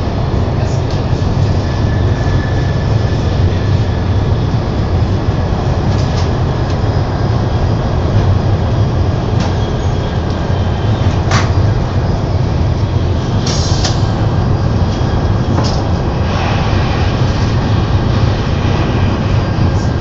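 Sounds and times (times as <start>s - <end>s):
train running at speed: 0.0s - 20.0s.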